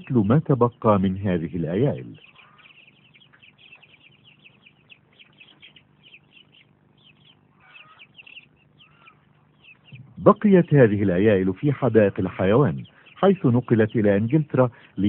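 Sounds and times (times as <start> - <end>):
birds chirping: 0.0 - 15.0
low bird calls: 0.0 - 15.0
steady low hum: 0.0 - 15.0.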